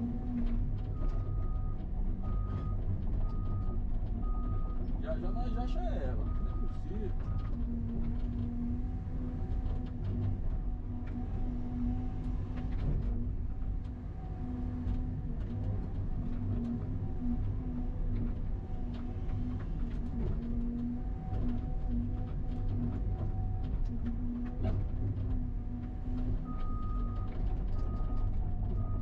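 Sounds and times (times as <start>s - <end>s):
excavator engine drone: 0.0s - 29.0s.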